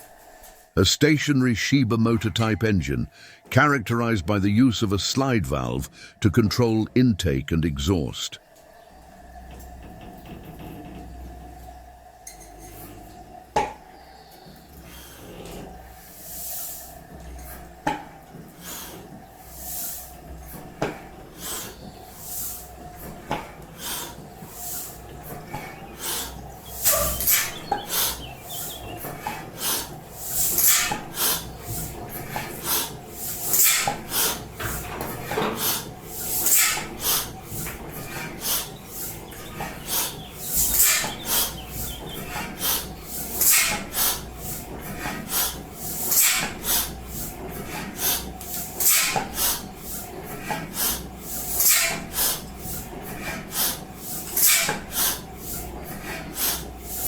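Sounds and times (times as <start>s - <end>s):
stationary engine hissing puffs: 3.1s - 3.5s, 5.8s - 6.3s, 8.6s - 57.0s.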